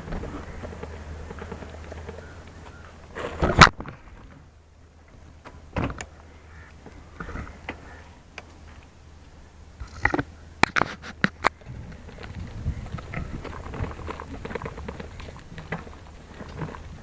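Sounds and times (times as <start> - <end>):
bicycle rattling on dirt trail: 0.0 - 17.0.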